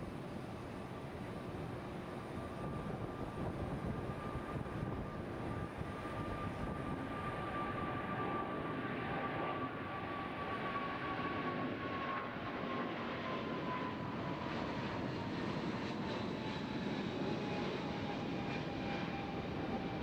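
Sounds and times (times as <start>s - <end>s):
jet engine roar with whine: 0.0s - 20.0s.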